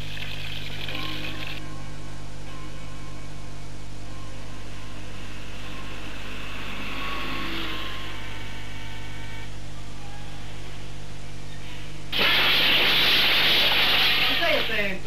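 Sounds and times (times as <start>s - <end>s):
low hum: 0.0s - 14.3s.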